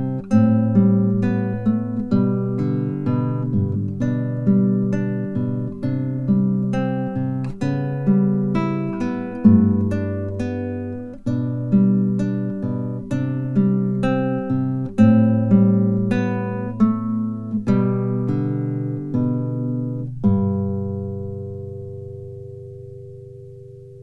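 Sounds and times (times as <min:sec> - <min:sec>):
plucked acoustic guitar: 0:00.0 - 0:24.0.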